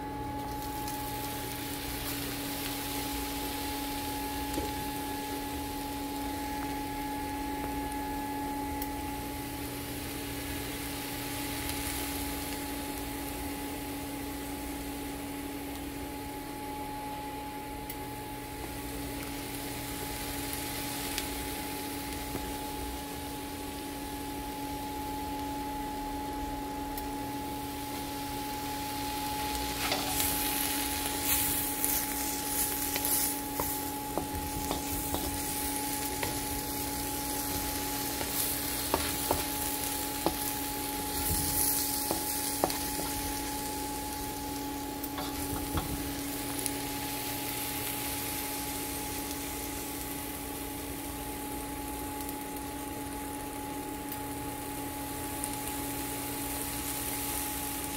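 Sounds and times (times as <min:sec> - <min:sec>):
steady two-tone hum: 0:00.0 - 0:57.9
vegetables sizzling in a wok: 0:00.0 - 0:57.9.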